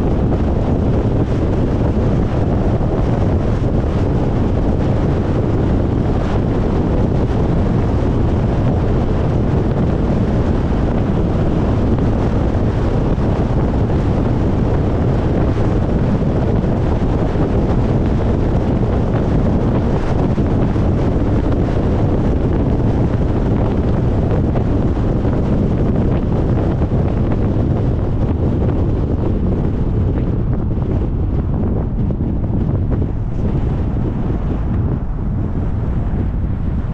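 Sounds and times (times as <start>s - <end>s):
car road noise at highway speed: 0.0s - 36.9s
wind rushing over microphone: 0.0s - 36.9s.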